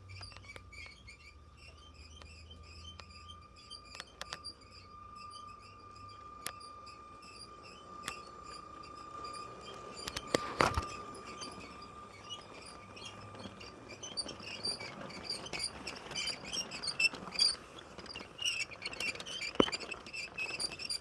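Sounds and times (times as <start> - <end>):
toy train wheels clicking: 0.1 - 21.0.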